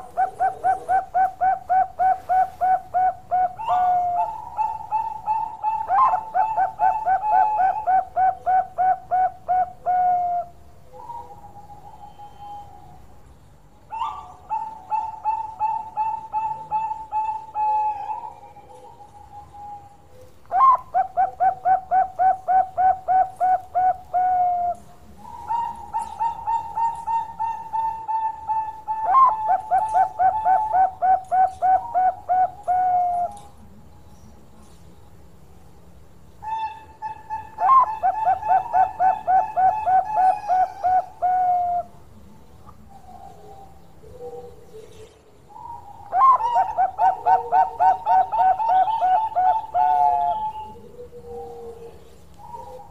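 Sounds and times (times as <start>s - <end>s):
dove cooing: 0.0s - 13.1s, 13.9s - 33.7s, 36.4s - 52.9s.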